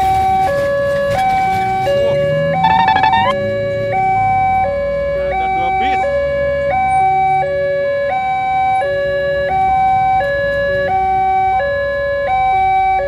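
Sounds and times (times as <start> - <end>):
level crossing warning alarm: 0.0 - 13.0
low rumble of road traffic: 0.0 - 13.0.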